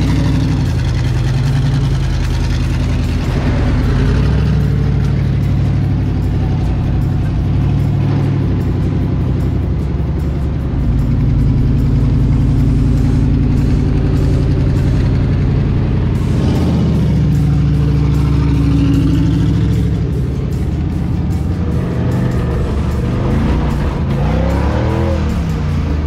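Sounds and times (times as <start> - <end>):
background music: 0.0 - 26.0
vehicle engine running: 0.0 - 26.0.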